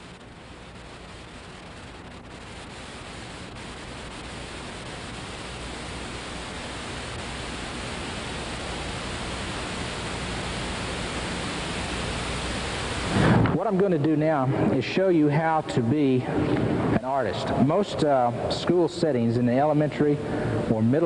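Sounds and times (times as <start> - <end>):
faint low hum: 0.0 - 21.0
tape hiss: 0.0 - 21.0.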